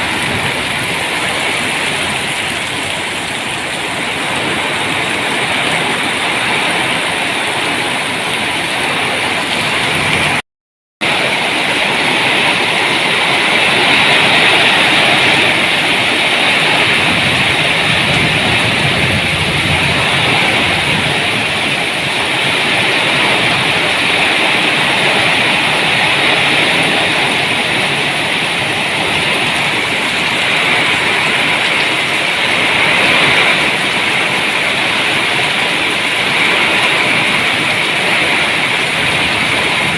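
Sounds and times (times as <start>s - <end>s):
heavy rain hiss: 0.0s - 10.4s, 11.0s - 39.9s.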